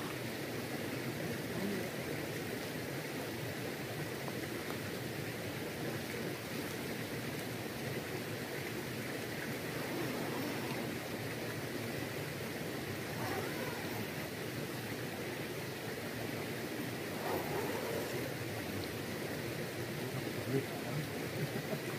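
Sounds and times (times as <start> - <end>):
river rushing: 0.0 - 21.7.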